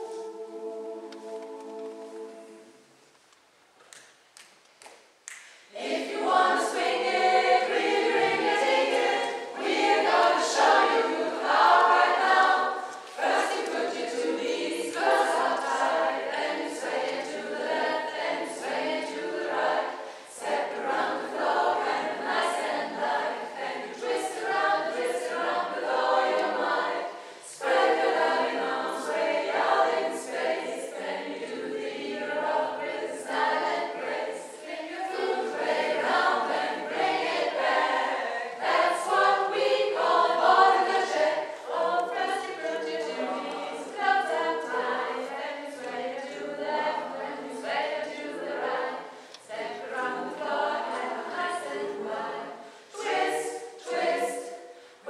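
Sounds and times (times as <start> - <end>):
women's choir singing: 0.0 - 3.0, 5.6 - 55.0.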